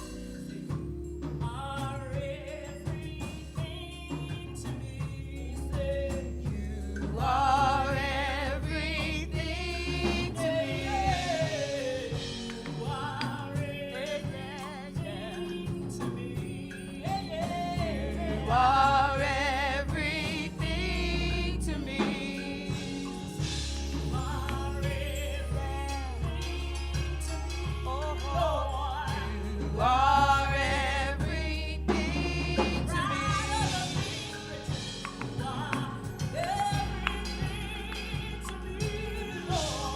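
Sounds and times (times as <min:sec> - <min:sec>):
gospel band with sustained bass: 0:00.0 - 0:39.9
voices singing with vibrato: 0:01.5 - 0:39.9.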